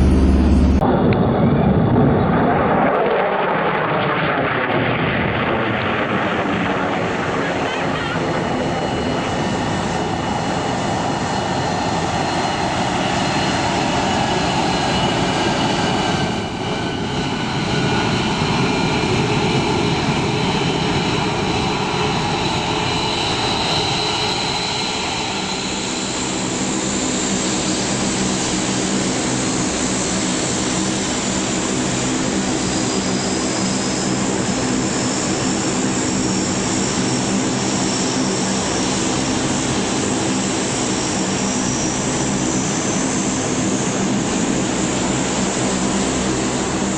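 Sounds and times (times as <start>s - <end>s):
propeller engines running: 0.0s - 46.9s.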